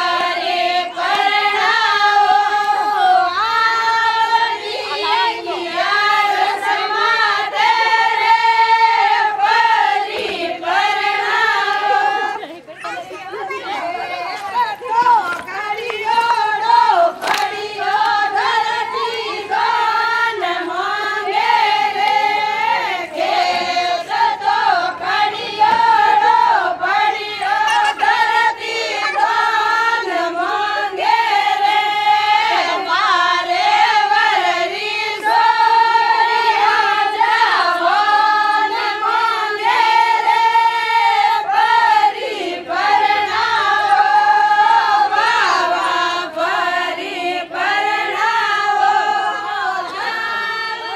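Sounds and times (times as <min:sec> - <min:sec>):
women singing in chorus: 0:00.0 - 0:50.9.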